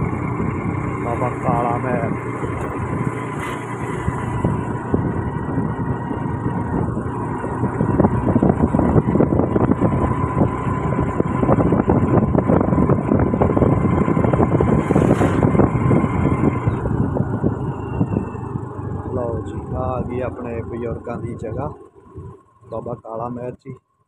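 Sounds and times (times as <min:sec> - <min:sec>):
wind on microphone: 0:00.0 - 0:23.1
vehicle engine and road noise: 0:00.0 - 0:24.0.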